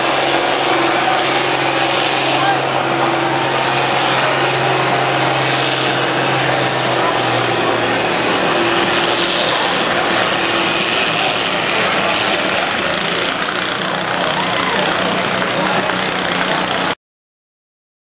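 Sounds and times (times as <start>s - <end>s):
tractor engine running hard: 0.0s - 17.0s.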